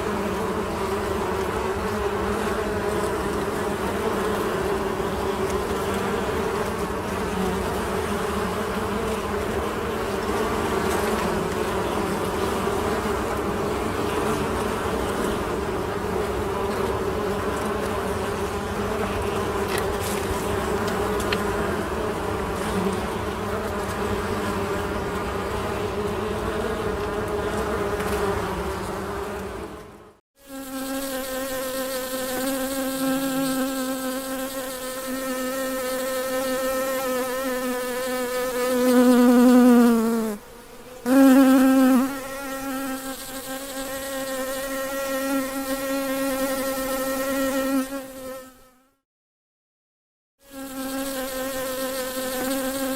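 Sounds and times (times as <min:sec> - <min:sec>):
honey bees buzzing: 0:00.0 - 0:48.9, 0:50.4 - 0:52.9.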